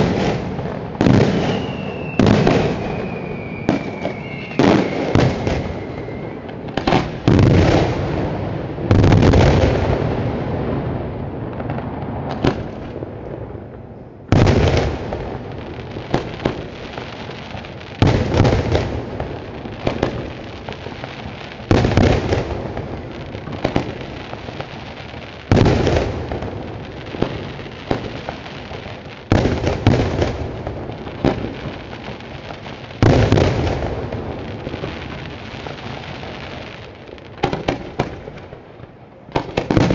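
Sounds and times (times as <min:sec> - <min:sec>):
sharp firework cracks: 0:00.0 - 0:10.2, 0:11.5 - 0:36.2, 0:39.3 - 0:39.9.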